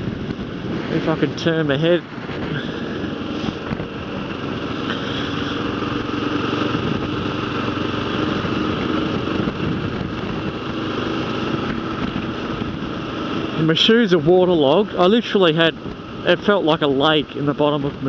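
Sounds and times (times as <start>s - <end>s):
wind noise: 0.0s - 15.0s
motorcycle engine running: 0.0s - 18.0s.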